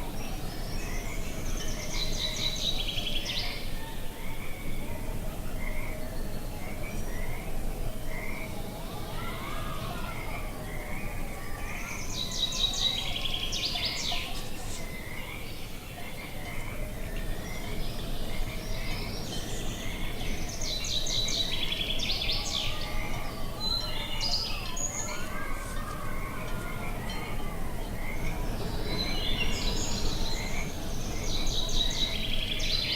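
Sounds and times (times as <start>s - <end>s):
chorus of wavering bird calls: 0.0s - 32.9s
low background noise: 0.0s - 32.9s.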